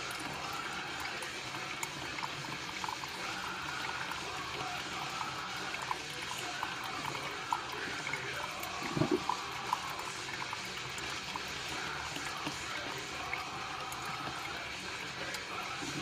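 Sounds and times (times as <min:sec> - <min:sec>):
coffee trickling and gurgling: 0:00.0 - 0:16.0.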